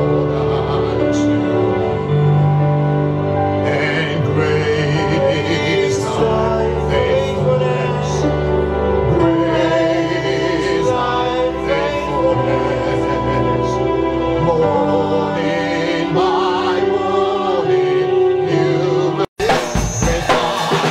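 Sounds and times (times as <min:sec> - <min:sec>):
gospel singing: 0:00.0 - 0:20.9.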